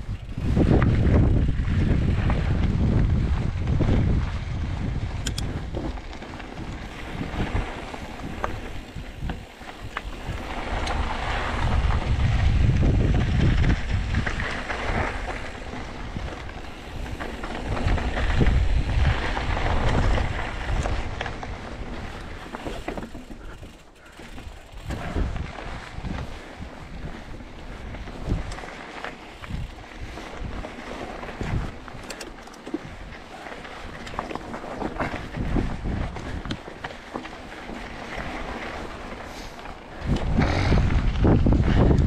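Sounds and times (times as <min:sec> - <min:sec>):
wind buffeting microphone: 0:00.0 - 0:32.2, 0:32.8 - 0:37.1, 0:39.9 - 0:42.0.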